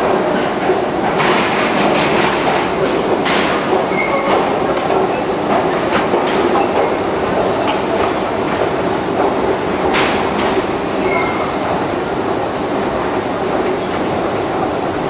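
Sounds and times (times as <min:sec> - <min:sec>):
escalator steps clicking: 0:00.0 - 0:15.0.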